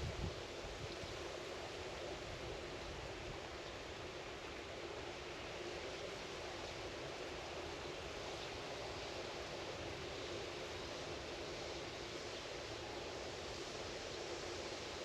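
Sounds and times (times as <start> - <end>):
outdoor ambient rushing noise: 0.0 - 15.0.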